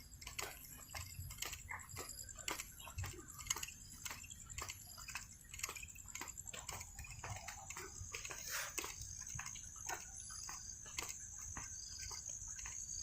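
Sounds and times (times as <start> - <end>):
insect trill: 0.0 - 13.0
soft clicks and ticks: 0.0 - 13.0.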